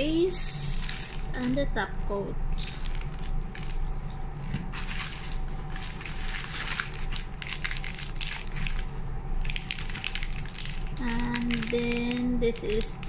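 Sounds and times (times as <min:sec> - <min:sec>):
plastic packaging crinkling: 0:00.7 - 0:01.8, 0:02.5 - 0:13.0.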